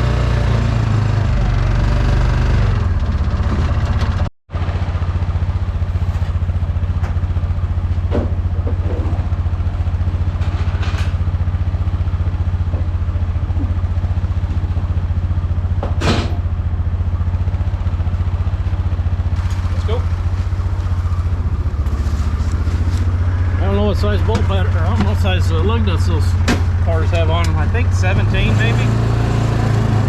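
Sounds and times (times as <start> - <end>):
diesel engine idling: 0.8 - 30.0.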